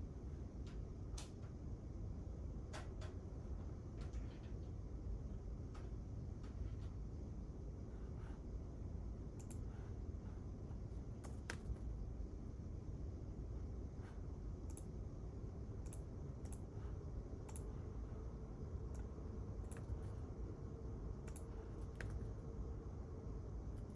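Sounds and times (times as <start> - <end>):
low room hum: 0.0 - 23.9.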